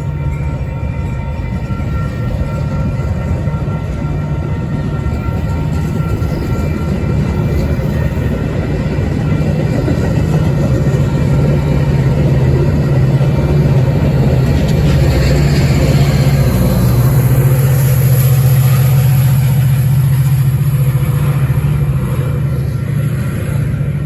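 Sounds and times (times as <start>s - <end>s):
train engine drone: 0.0s - 24.0s.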